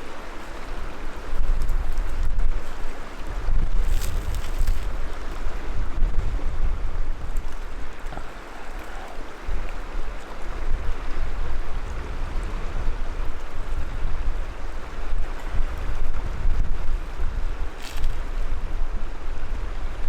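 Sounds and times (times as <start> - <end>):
wind blowing across microphone: 0.0 - 20.0.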